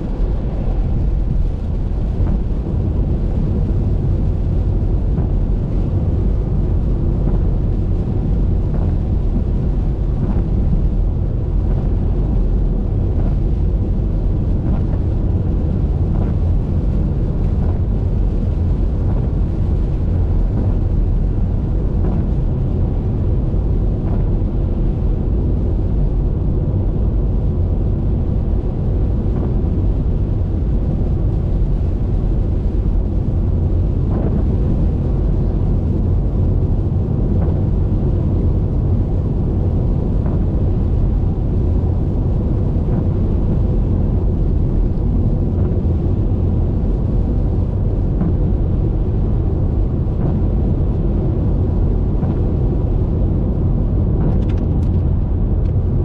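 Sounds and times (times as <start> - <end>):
car driving on wet highway: 0.0 - 56.0.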